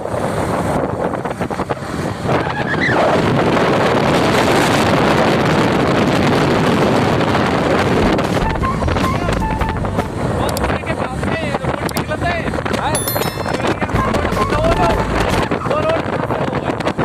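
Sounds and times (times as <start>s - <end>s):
wind rushing over microphone: 0.0s - 12.9s, 13.5s - 17.0s
motorcycle engine and road noise: 0.0s - 17.0s.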